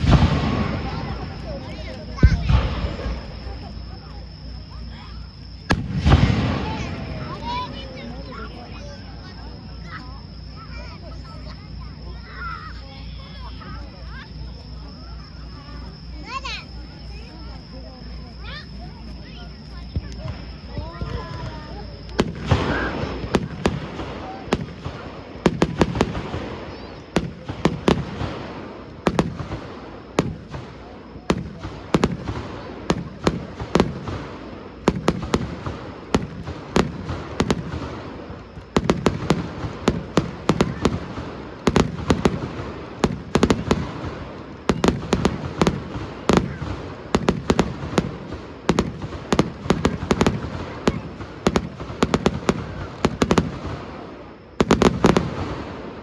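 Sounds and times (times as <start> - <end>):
firework cracks: 0.0 - 17.4, 19.2 - 56.0
deep firework booms: 0.0 - 56.0.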